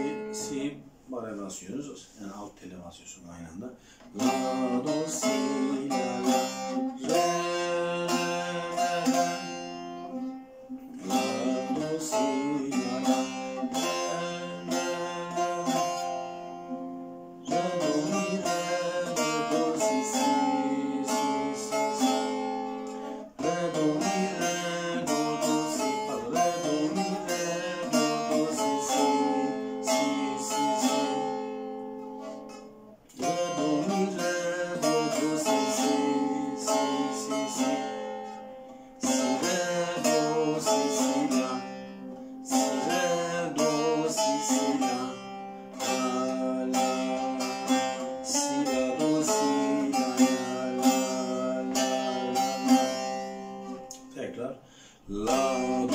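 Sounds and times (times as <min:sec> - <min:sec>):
plucked lute folk melody: 0:00.0 - 0:00.8, 0:03.8 - 0:55.9.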